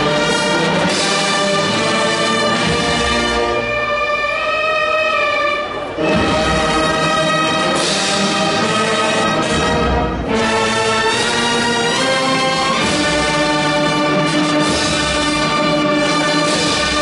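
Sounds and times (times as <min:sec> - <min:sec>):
brass band playing slow chords: 0:00.0 - 0:17.0.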